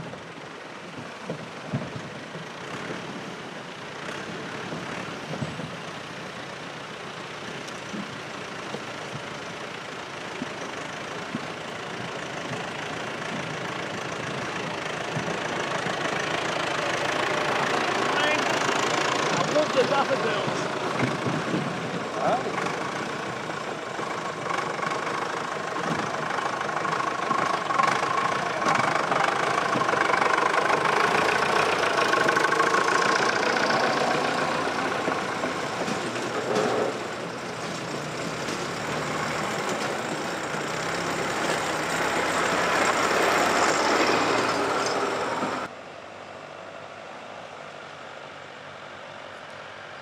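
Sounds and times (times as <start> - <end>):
tractor engines passing: 0.0 - 50.0.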